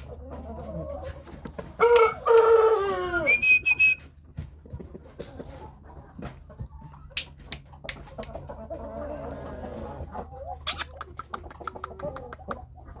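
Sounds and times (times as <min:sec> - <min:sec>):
rooster clucking: 0:00.0 - 0:03.9, 0:04.6 - 0:13.0.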